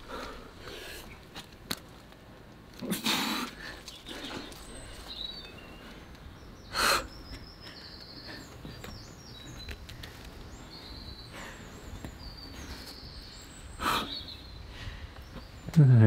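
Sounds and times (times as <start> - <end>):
small birds chirping: 0.0 - 1.8, 2.8 - 16.0.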